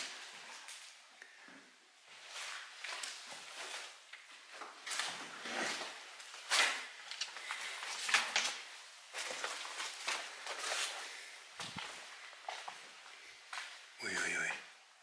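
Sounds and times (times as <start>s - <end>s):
scuffing and crunching: 2.1s - 14.2s.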